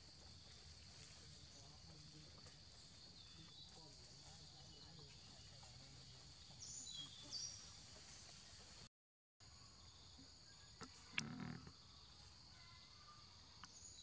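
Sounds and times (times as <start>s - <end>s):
high insect hum: 0.0s - 8.8s, 9.4s - 14.0s.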